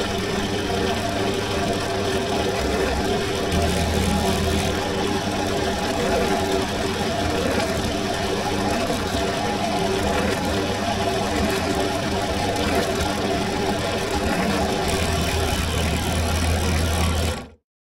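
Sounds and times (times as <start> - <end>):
drill press motor humming: 0.1 - 17.6.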